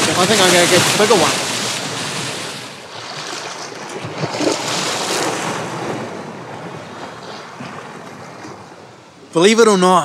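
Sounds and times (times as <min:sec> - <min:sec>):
sea surf washing against rocks: 0:00.0 - 0:09.3
wind buffeting microphone: 0:00.0 - 0:09.4.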